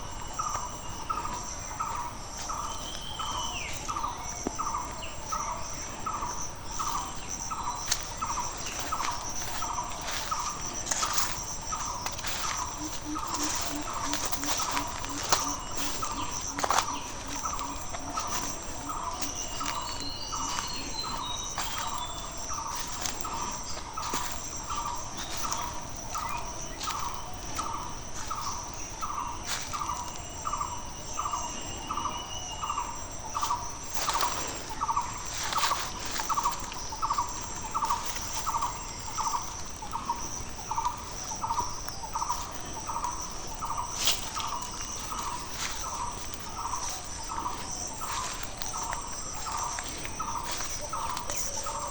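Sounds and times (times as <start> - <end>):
birds chirping: 0.0 - 51.9
high insect trill: 0.0 - 51.9.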